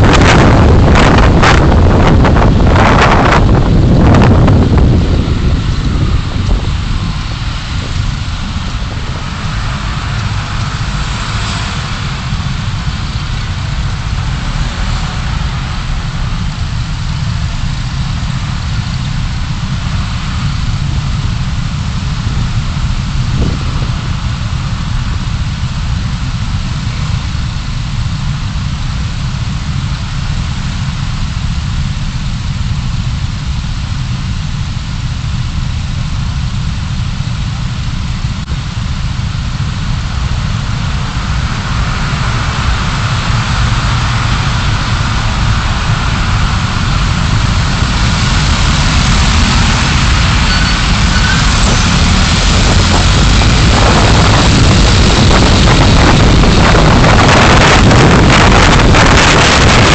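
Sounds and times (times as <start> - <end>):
car engine rumble: 0.0 - 59.9.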